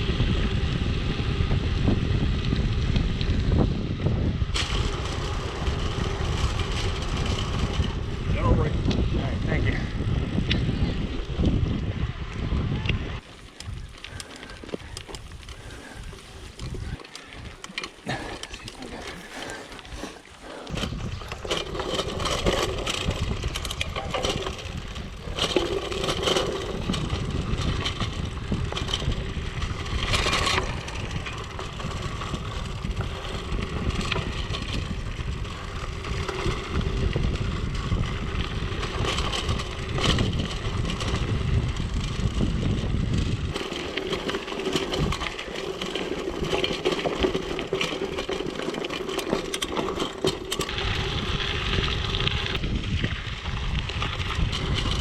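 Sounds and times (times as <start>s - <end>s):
bike tyres rolling over gravel: 0.0s - 55.0s.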